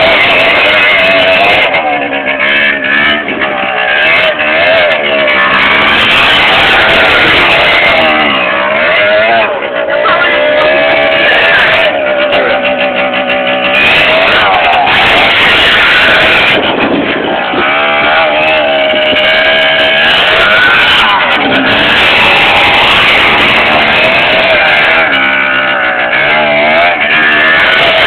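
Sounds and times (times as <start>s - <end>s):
quad bike engine revving: 0.0s - 28.0s.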